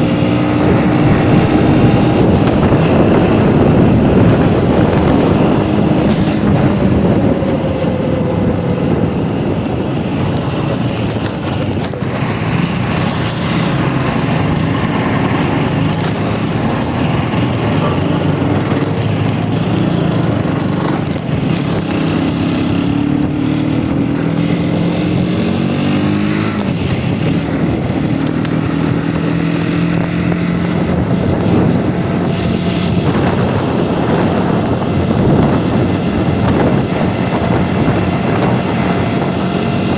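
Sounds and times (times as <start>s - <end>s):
heavy wind noise: 0.0s - 39.9s
motorcycle engine revving: 0.0s - 39.9s.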